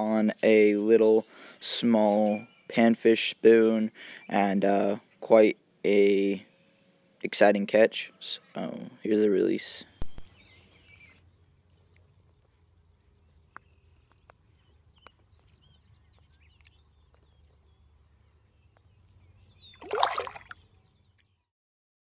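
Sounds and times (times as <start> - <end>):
small birds chirping: 0.3 - 6.9, 8.1 - 21.5.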